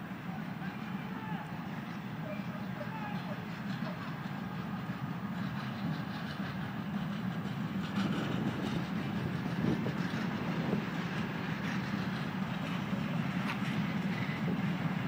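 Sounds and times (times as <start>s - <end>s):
train wheels rumbling on rails: 0.0s - 15.0s
wheels clacking over rail joints: 1.7s - 15.0s.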